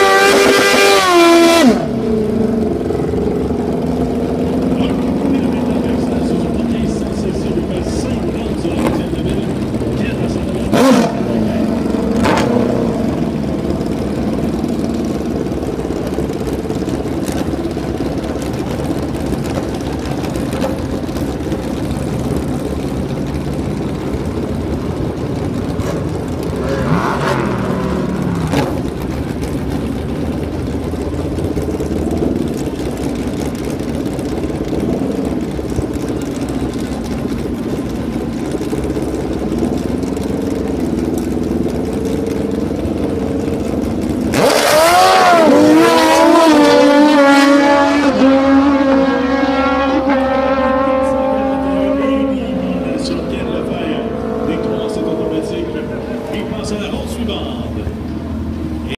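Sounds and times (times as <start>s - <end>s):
motorcycle engines idling and revving: 0.0s - 58.9s.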